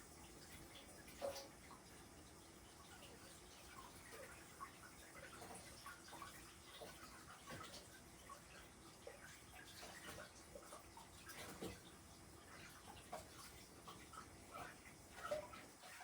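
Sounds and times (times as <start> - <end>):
trickling water: 0.0 - 16.0.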